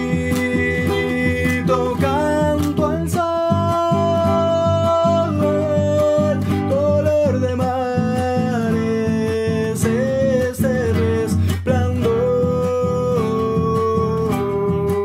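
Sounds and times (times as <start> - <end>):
man singing: 0.0 - 15.0
strummed nylon-string guitar: 0.0 - 15.0.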